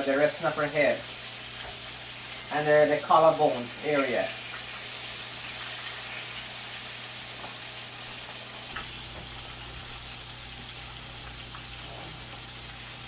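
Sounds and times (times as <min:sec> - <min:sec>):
fish frying in hot oil: 0:00.0 - 0:13.0
oil popping and crackling: 0:01.1 - 0:13.0.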